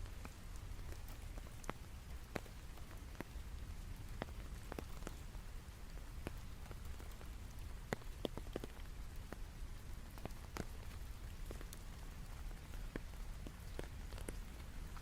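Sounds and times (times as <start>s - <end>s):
raindrops striking: 0.0s - 15.0s.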